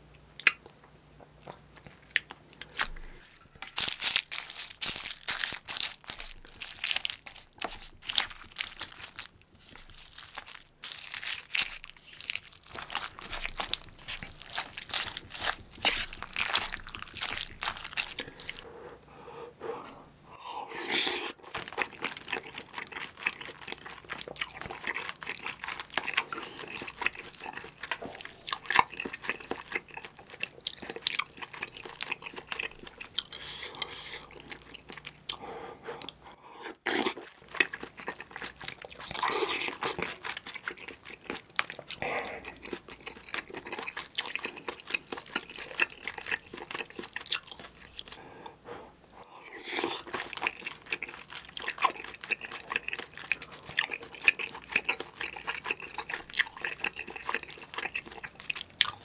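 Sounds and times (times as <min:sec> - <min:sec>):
wet crunchy chewing: 0:01.4 - 0:18.7, 0:20.8 - 0:35.4, 0:36.8 - 0:59.0.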